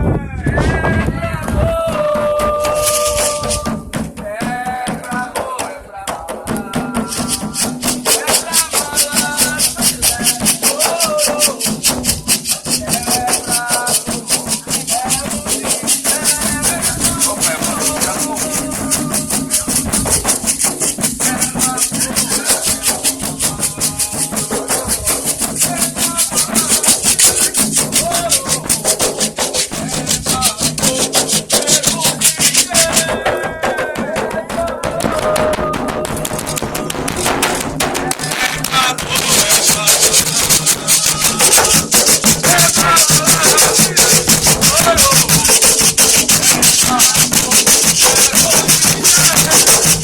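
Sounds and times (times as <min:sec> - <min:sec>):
low drum beats: 0:00.0 - 0:50.0
voices singing: 0:00.0 - 0:50.0
shaker rattle: 0:01.5 - 0:05.8, 0:06.6 - 0:50.0.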